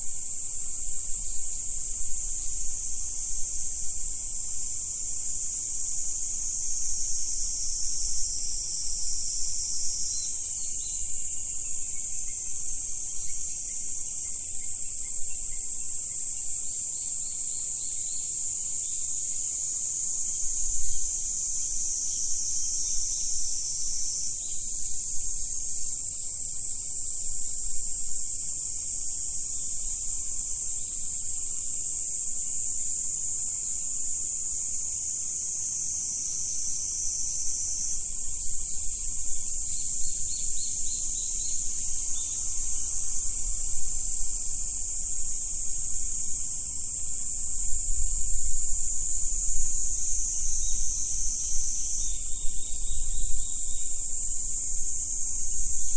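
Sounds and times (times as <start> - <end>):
insects buzzing: 0.0 - 55.9.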